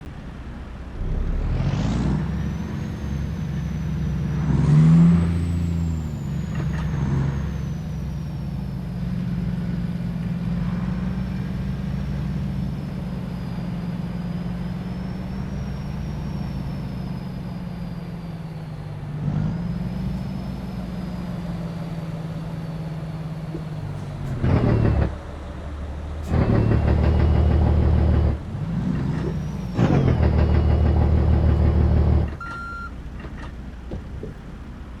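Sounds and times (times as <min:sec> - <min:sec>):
diesel truck engine revving: 0:00.1 - 0:35.0.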